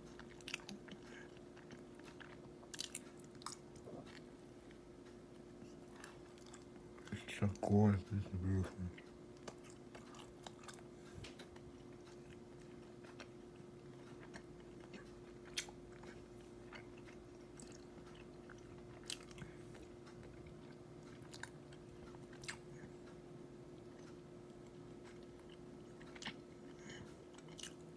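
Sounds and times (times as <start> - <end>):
chewing soft pastry: 0.0 - 27.9
faint steady hum: 0.0 - 27.9.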